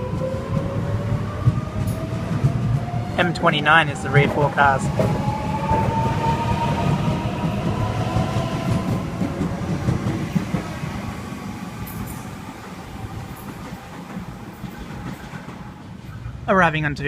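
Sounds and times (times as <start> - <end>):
train wheels rumbling and clattering: 0.0 - 16.5.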